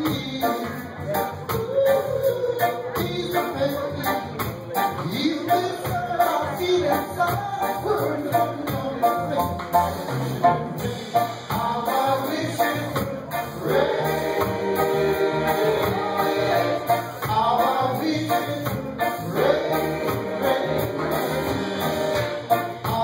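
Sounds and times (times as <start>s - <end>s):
live band playing: 0.0s - 23.0s
man singing: 0.0s - 23.0s.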